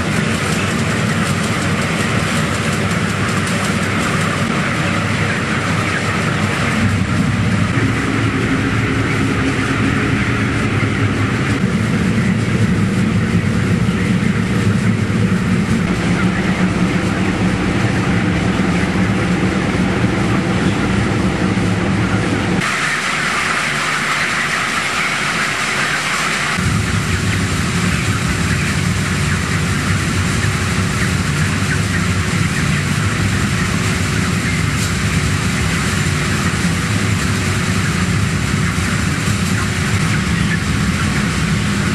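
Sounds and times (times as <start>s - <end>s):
low hum: 0.0s - 41.9s
mechanical drone: 0.0s - 41.9s.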